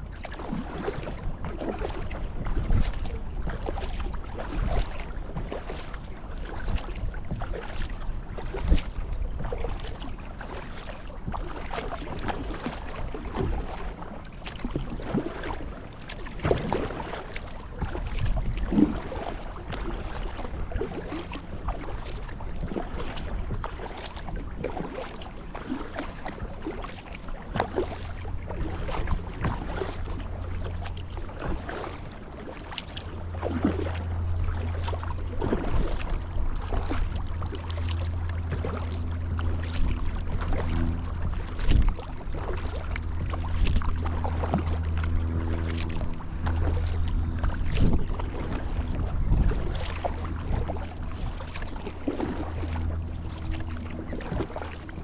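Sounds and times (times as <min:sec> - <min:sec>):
paddle splashing in water: 0:00.0 - 0:55.0
steady low rumble: 0:00.0 - 0:55.0.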